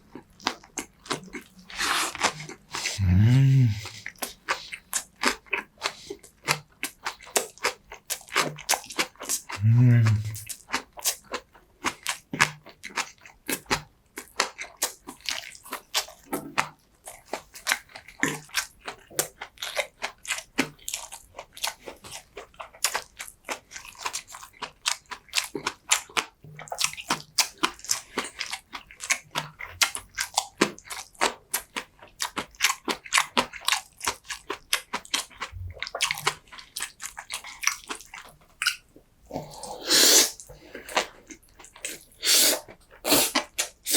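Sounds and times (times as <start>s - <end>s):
chewing and biting: 0.0s - 3.1s, 3.8s - 43.9s.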